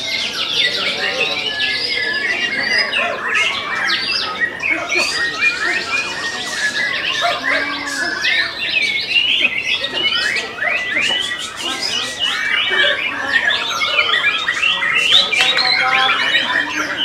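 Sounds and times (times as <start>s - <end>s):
chorus of birds singing: 0.0s - 17.0s.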